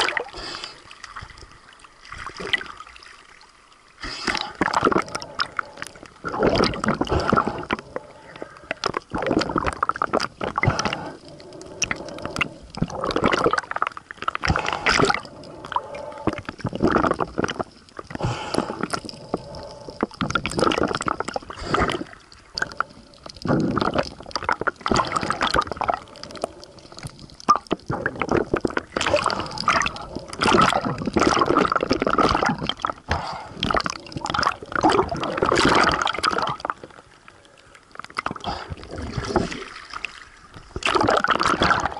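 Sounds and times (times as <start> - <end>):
underwater gurgling and sloshing: 0.0 - 41.9.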